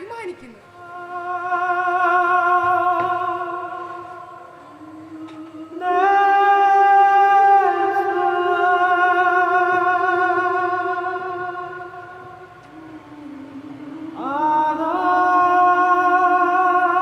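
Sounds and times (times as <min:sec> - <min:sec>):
wordless singing of held notes: 0:00.0 - 0:17.0.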